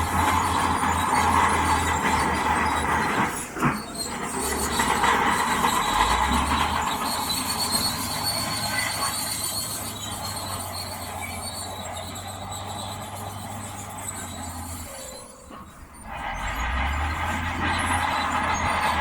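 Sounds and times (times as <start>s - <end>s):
bulldozer tracks squealing: 0.0s - 19.0s
engine hum: 0.0s - 19.0s.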